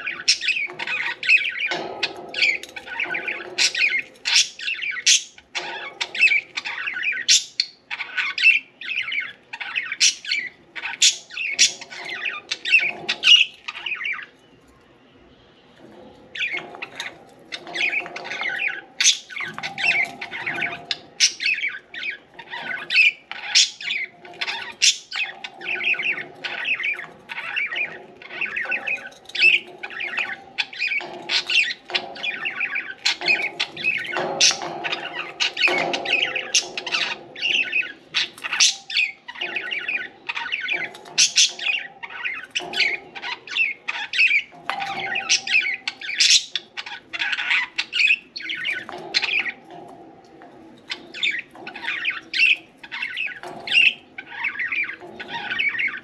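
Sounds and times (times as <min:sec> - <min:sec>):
budgerigars chattering and chirping: 0:00.0 - 0:14.6, 0:15.5 - 0:56.0.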